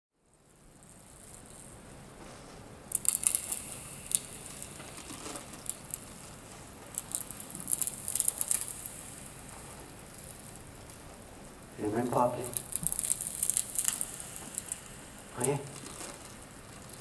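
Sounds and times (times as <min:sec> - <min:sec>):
faint steady hiss: 0:00.2 - 0:17.0
crackling crinkling clicks: 0:02.9 - 0:17.0.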